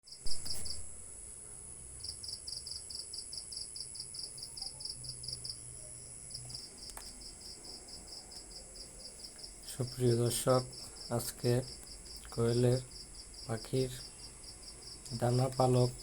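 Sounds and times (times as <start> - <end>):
insect chirping: 0.1 - 16.0.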